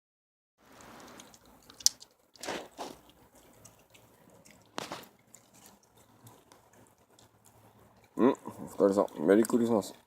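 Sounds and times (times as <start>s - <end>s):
dogs chewing food: 0.7s - 10.0s.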